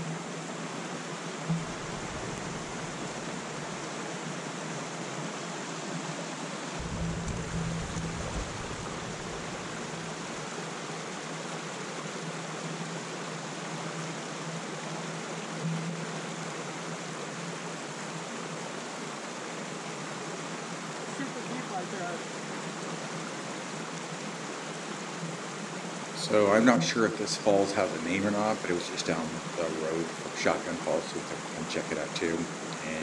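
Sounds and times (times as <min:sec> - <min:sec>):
creek running over rocks: 0:00.0 - 0:33.0.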